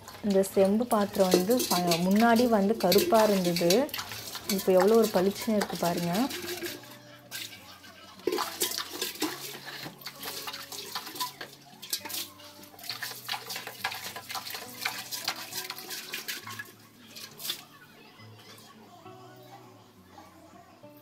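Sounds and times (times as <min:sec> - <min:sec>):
water splashing on tiled floor: 0:00.0 - 0:07.6, 0:08.2 - 0:17.7
water sloshing in pot: 0:00.0 - 0:17.8.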